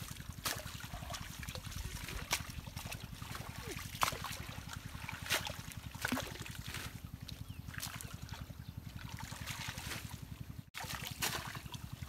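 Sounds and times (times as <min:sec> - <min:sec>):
engine chugging: 0:00.0 - 0:12.0
water splashing and dripping: 0:00.0 - 0:12.0.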